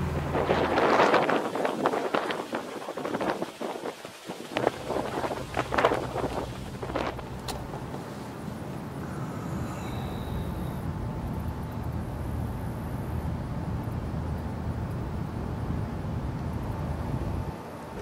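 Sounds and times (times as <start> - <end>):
low outdoor background rumble: 0.0 - 18.0.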